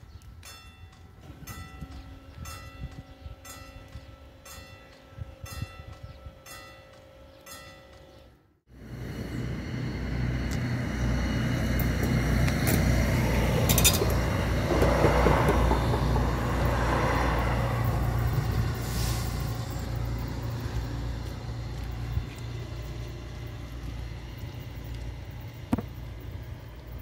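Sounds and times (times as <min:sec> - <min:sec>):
train rumbling past: 0:00.9 - 0:27.0.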